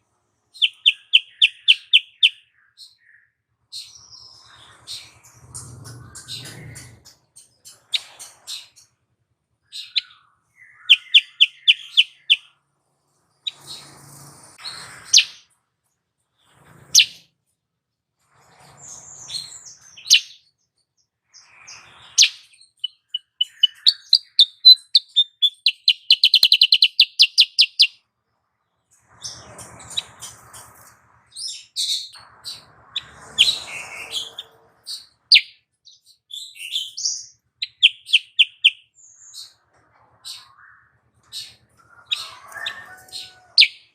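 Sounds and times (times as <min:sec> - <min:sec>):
bird chirping and trilling: 0:00.5 - 0:08.9, 0:09.7 - 0:12.6, 0:13.4 - 0:15.5, 0:16.4 - 0:17.3, 0:18.7 - 0:20.6, 0:21.4 - 0:28.0, 0:29.1 - 0:39.6, 0:40.2 - 0:43.9.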